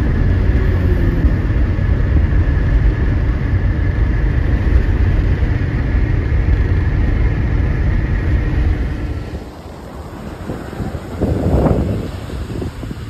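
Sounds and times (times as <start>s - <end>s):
car road and engine rumble: 0.0s - 13.0s
faint high whine: 0.0s - 13.0s.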